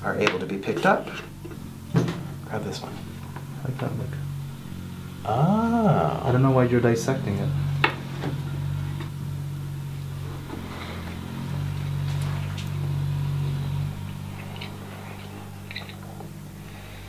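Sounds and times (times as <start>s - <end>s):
construction machinery engine drone: 0.0s - 17.0s.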